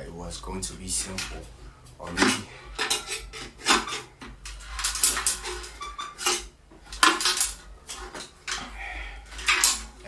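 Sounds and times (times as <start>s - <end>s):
metal clattering and scraping: 0.9s - 10.0s.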